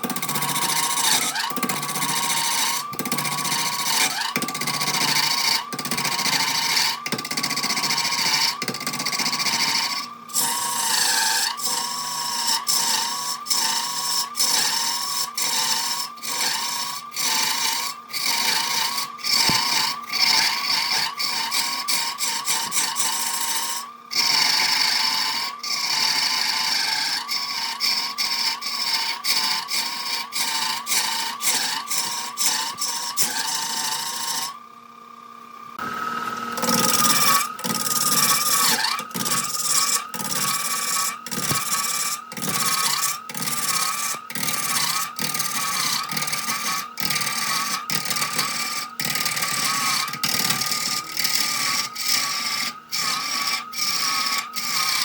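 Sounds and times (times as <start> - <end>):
wood lathe cutting log: 0.0 - 34.7, 35.8 - 55.0.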